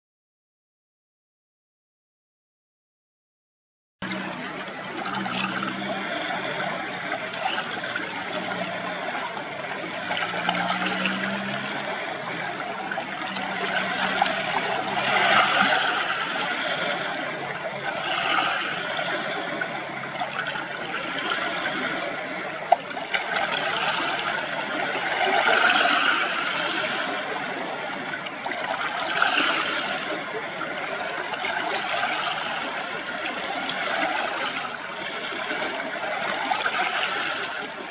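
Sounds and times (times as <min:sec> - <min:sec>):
small waves washing on shore: 0:04.0 - 0:37.9.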